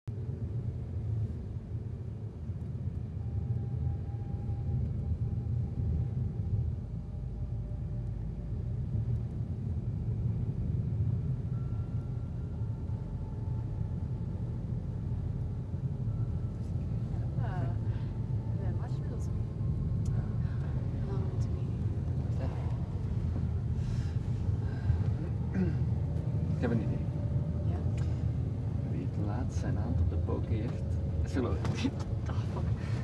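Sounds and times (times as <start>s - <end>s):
car driving low rumble: 0.1s - 33.0s.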